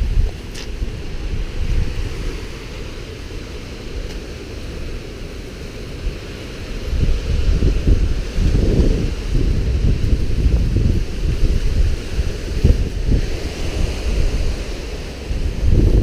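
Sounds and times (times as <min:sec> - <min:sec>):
strong wind gusting on microphone: 0:00.0 - 0:16.0.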